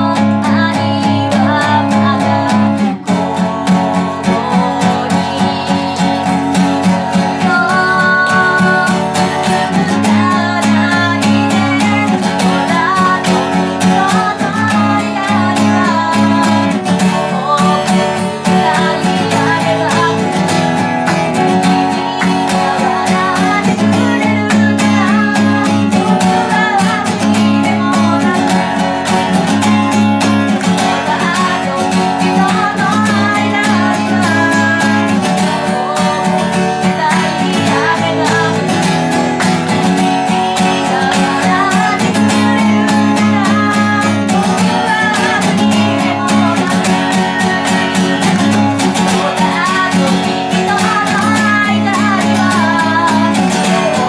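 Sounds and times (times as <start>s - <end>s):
acoustic guitar strumming chords: 0.0s - 54.0s
person singing: 0.0s - 54.0s.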